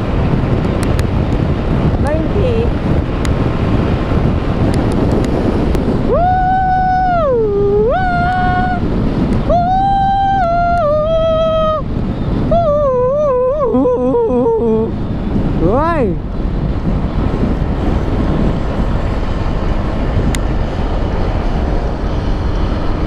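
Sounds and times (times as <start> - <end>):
wind and scooter road noise: 0.0 - 23.0.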